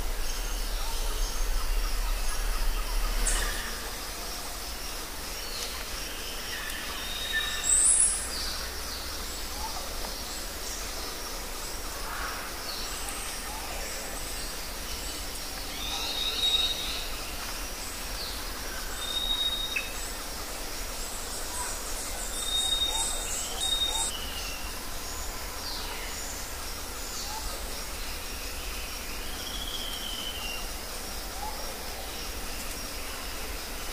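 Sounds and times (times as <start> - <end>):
steady background hiss: 0.0 - 33.9.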